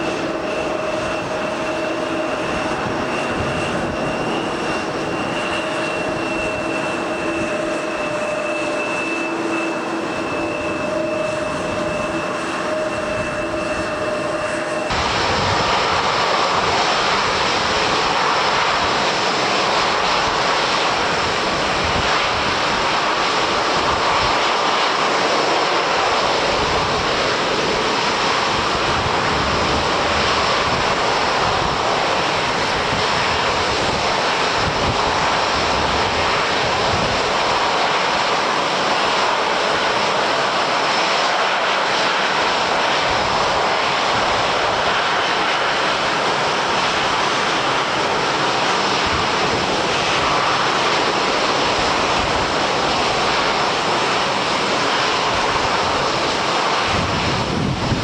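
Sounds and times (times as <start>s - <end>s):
jet engines whining and roaring: 0.0s - 58.0s.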